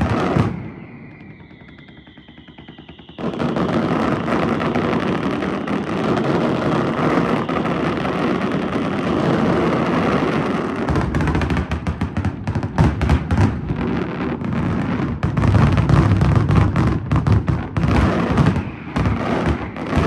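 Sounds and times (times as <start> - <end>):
falling firework whistle: 0.0 - 20.0
fireworks exploding and crackling: 0.0 - 20.0.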